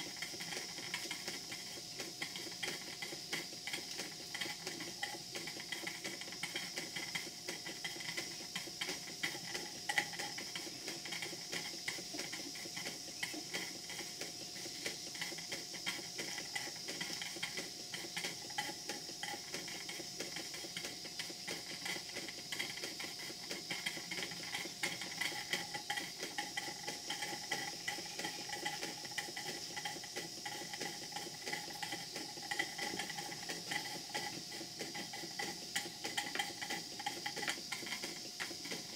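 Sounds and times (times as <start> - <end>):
steam hissing: 0.0 - 38.9
valve gear ticking rapidly: 0.0 - 38.9.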